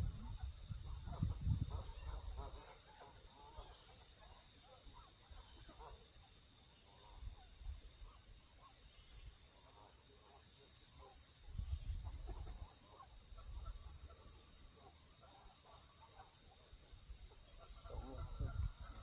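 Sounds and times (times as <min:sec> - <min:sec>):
higher pulsing insect layer: 0:00.0 - 0:19.0
insects trilling: 0:00.0 - 0:19.0.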